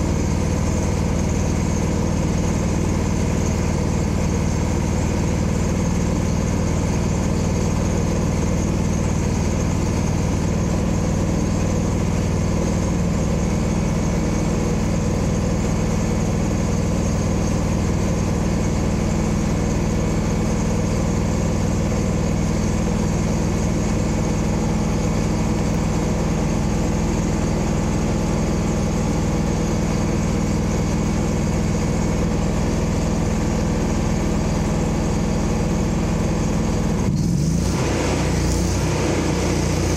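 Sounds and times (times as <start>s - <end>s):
vehicle engine running steadily: 0.0s - 39.9s.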